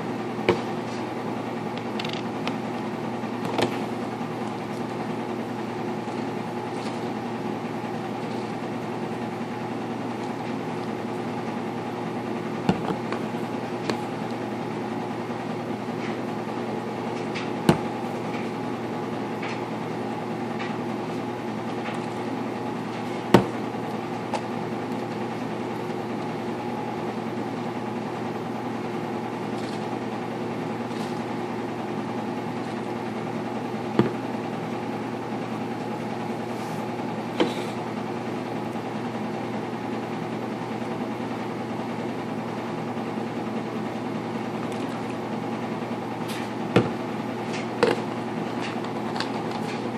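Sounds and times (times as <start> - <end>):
washing machine humming: 0.0 - 49.9.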